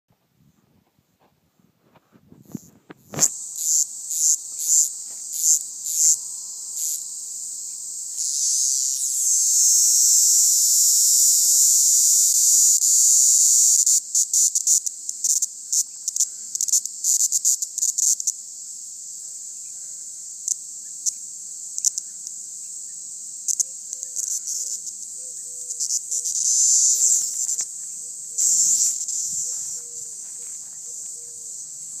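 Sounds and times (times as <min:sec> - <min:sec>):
cicadas buzzing: 0:02.4 - 0:32.0.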